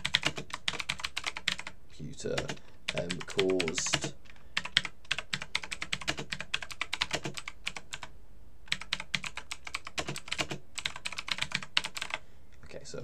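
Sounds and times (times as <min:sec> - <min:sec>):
keyboard typing: 0:00.0 - 0:08.1, 0:08.7 - 0:12.2.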